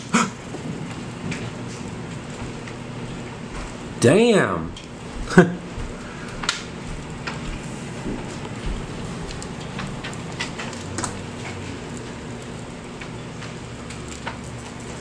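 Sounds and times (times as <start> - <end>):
steady rain falling: 0.0 - 4.0, 4.8 - 15.0
raindrops tapping surfaces: 0.1 - 4.0, 4.7 - 15.0.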